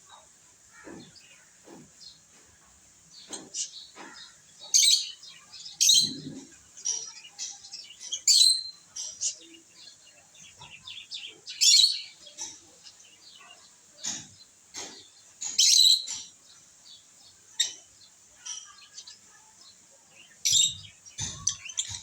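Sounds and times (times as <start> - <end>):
lovebirds chirping: 0.1 - 22.0.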